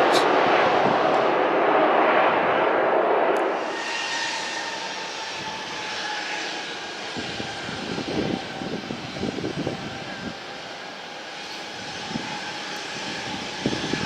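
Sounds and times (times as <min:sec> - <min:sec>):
cargo plane engines reverse thrust: 0:00.0 - 0:14.0
steady engine whine: 0:00.0 - 0:14.0.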